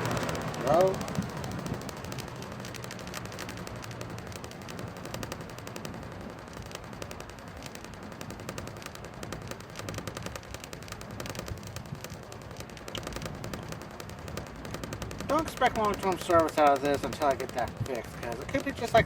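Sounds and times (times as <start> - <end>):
box fan motor hum: 0.0 - 19.0
fast clicking rattle: 0.0 - 19.0.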